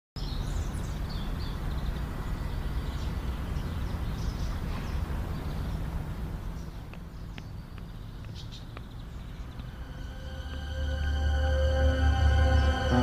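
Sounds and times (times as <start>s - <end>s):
birds chirping: 0.2s - 13.0s
steady low rumble: 0.2s - 13.0s.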